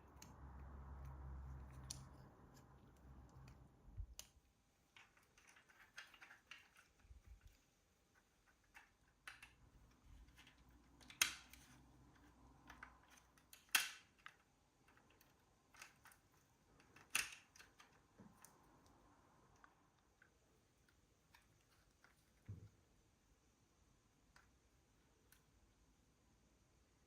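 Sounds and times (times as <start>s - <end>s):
small clicks and taps: 0.0s - 22.8s.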